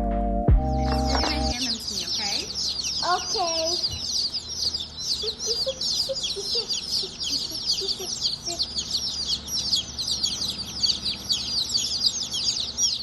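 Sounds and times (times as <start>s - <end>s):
chicks peeping: 0.5s - 13.0s.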